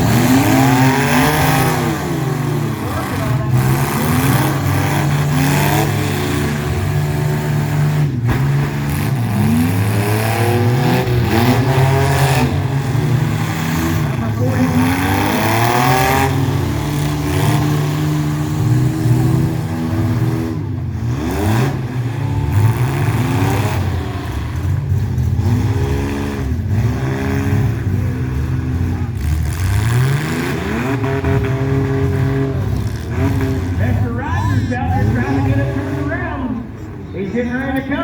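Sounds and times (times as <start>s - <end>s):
mini truck engines revving: 0.0s - 38.0s.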